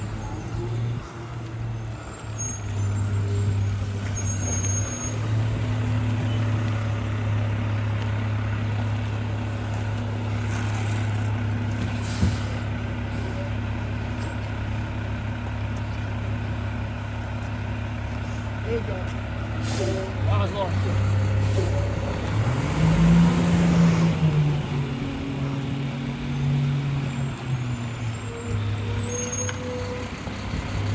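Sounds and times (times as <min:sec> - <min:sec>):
garbage truck engine running: 0:00.0 - 0:30.9.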